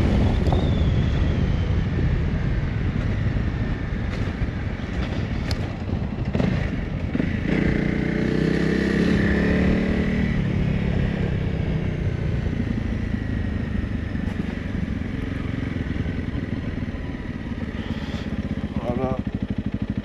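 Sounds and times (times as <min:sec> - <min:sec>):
motorbike engine running: 0:00.0 - 0:20.0.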